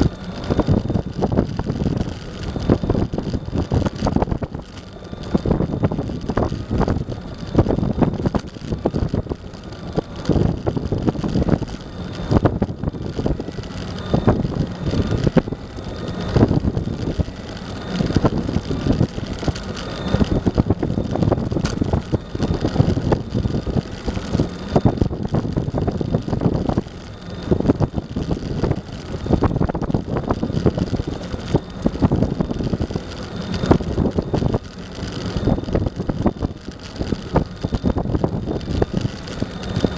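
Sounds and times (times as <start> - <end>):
faint motor whine: 0.0 - 39.9
wheels rumbling over pavement: 0.0 - 39.9
wind buffeting microphone: 0.0 - 39.9.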